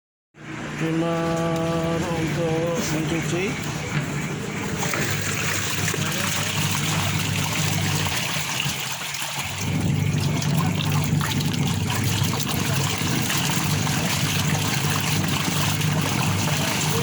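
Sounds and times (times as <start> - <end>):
washing machine motor hum: 0.4 - 17.0
water swishing in tub: 0.5 - 17.0.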